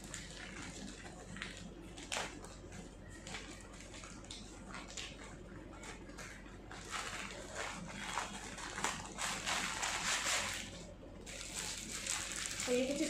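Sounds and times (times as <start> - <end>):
plastic bag crinkling and tearing: 0.0 - 13.0.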